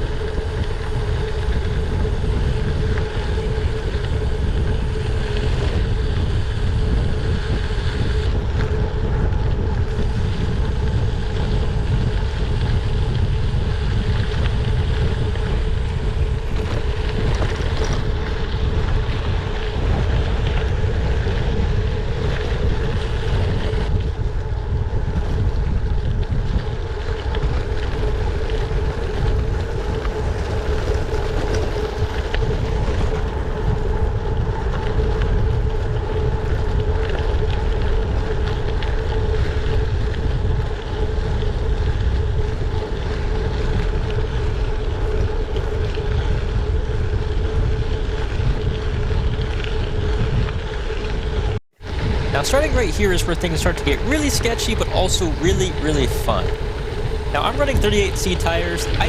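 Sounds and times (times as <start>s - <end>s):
bike rolling hum: 0.0s - 59.0s
wind rushing over microphone: 0.0s - 59.0s.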